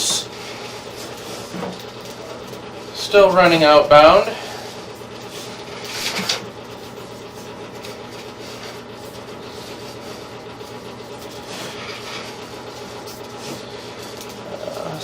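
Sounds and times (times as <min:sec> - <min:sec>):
inspection camera cable mechanical hum: 0:00.0 - 0:15.0.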